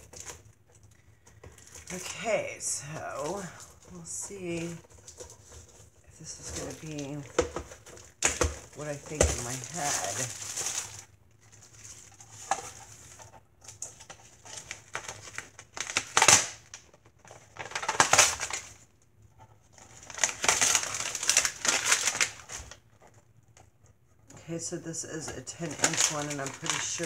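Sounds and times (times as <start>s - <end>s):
packaging crinkling: 0.0s - 23.7s, 25.0s - 27.0s.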